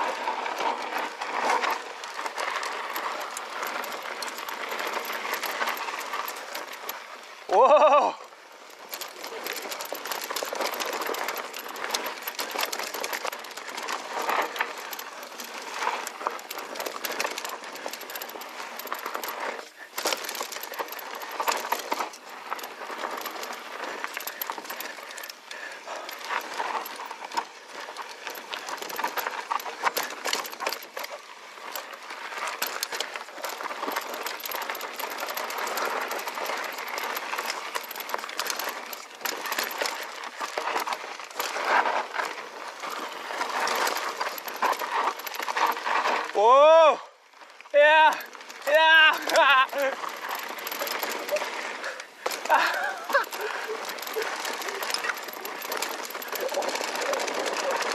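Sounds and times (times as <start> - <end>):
bike chain and frame clattering: 0.0 - 57.9
tyres crunching over dirt: 0.0 - 57.9.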